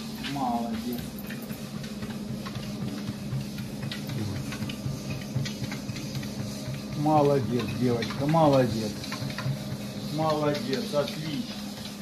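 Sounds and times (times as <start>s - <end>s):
treadmill humming: 0.0s - 12.0s
puppy paws tapping on belt: 0.2s - 12.0s.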